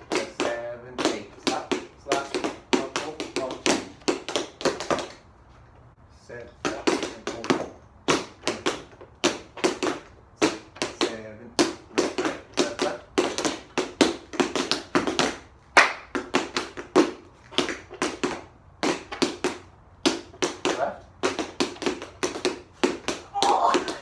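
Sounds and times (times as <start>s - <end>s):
tap shoes striking floor: 0.0s - 5.3s, 6.5s - 24.0s.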